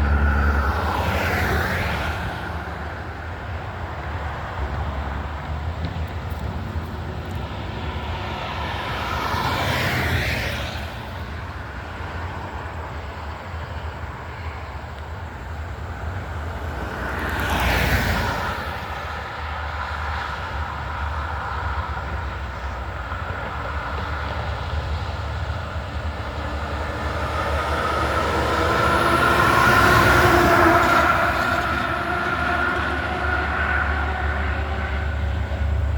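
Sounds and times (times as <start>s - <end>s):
loud vehicle approaching: 0.0s - 11.4s, 16.4s - 35.9s
diesel trucks driving past: 0.0s - 35.9s.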